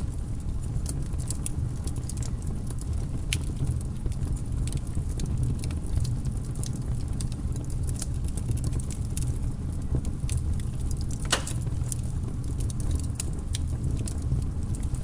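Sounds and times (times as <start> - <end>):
low rumble of flames: 0.0 - 15.0
logs crackling and snapping: 0.1 - 15.0.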